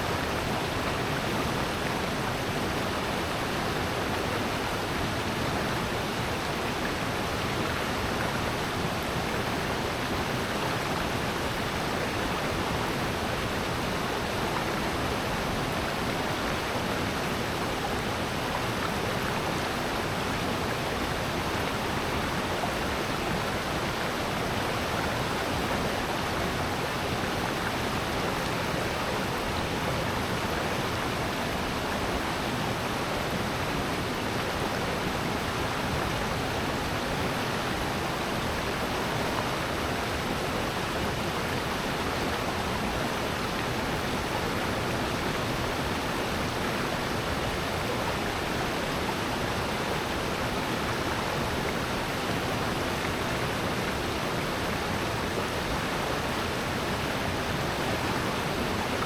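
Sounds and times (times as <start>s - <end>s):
stream and waterfall rushing: 0.0s - 59.0s.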